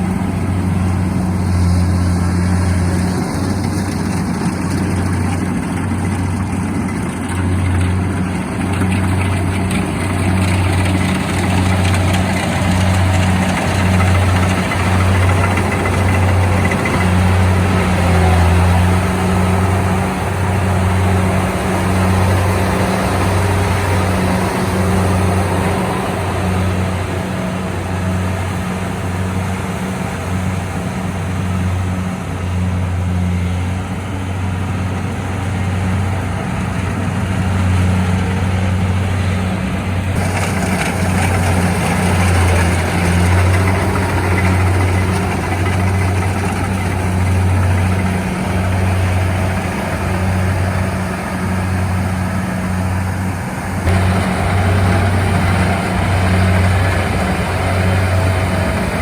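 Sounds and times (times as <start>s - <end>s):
harvester engine humming: 0.0s - 59.0s.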